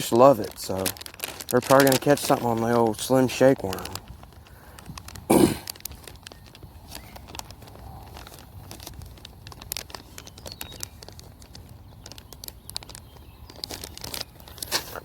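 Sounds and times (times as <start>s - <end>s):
plastic bait bag crinkling: 0.0s - 15.0s.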